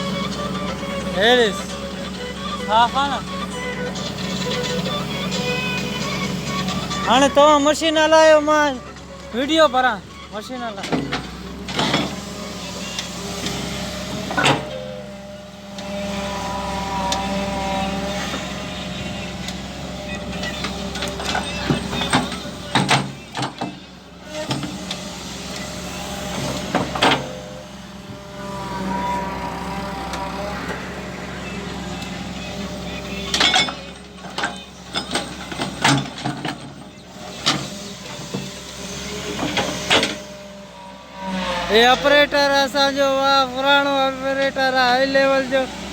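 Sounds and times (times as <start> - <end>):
machine engine running: 0.0 - 45.9
steady machine whine: 0.0 - 45.9.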